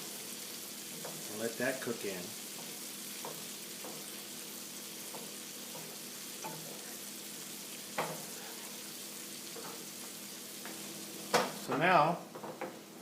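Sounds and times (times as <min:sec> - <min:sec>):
sauce sizzling in a pan: 0:00.0 - 0:13.0.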